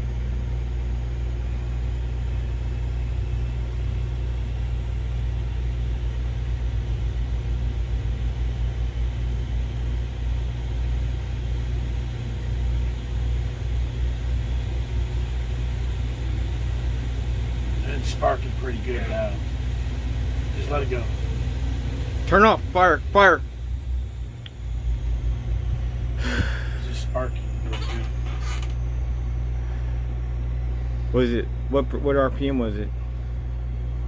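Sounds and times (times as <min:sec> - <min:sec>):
turboprop engine starter rumble: 0:06.0 - 0:33.4.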